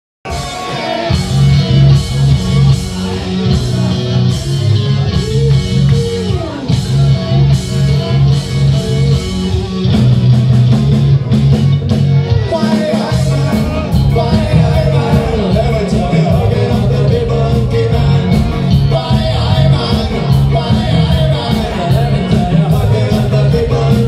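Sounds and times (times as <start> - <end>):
bass guitar line: 0.2 - 24.0
drum kit: 0.2 - 24.0
electric guitar melody: 0.3 - 24.0.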